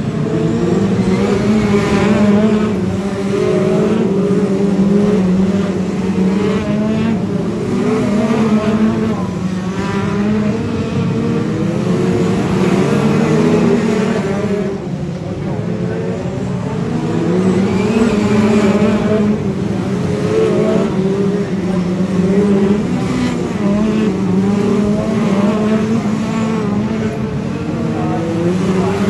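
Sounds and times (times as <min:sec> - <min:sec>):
racing car engines: 0:00.0 - 0:29.0.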